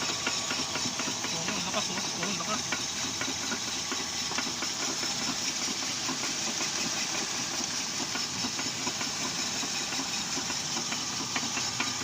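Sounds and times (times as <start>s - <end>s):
car engine running: 0.0s - 12.0s
irregular knocking clatter: 0.0s - 12.0s.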